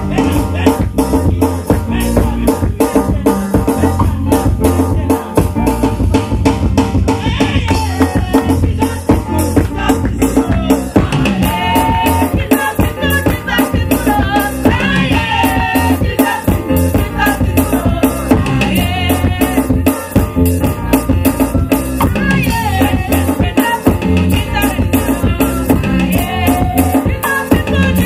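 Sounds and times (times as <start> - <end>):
women singing: 0.0 - 4.1, 7.1 - 28.0
drums beating: 0.0 - 28.0
repeating bass line: 0.0 - 28.0.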